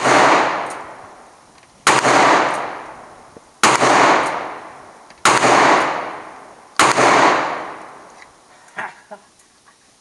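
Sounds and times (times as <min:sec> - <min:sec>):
echoing gunshots: 0:00.0 - 0:08.1.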